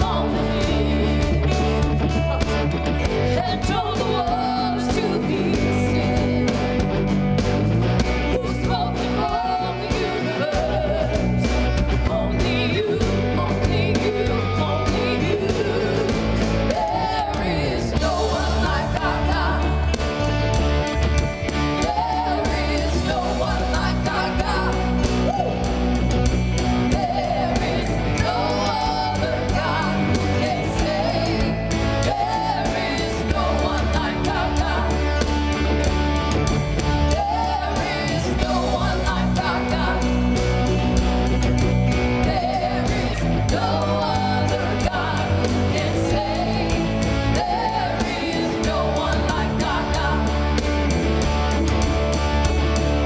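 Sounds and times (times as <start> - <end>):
worship singing over band: 0.0 - 7.1, 7.9 - 52.6.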